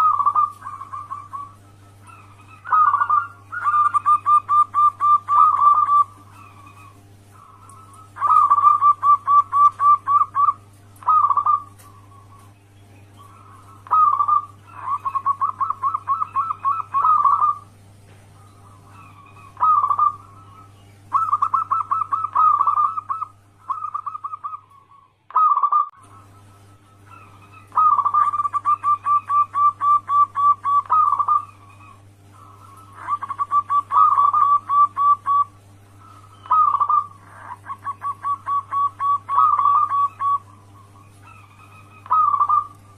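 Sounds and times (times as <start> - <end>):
dove cooing: 0.0 - 42.9
low hum: 0.0 - 42.9.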